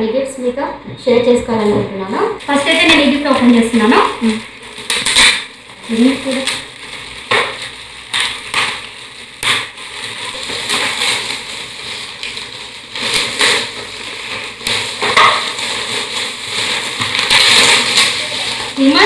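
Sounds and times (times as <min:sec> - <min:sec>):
gift wrapping paper crumpling: 0:02.4 - 0:19.0
paper tearing: 0:02.7 - 0:19.0.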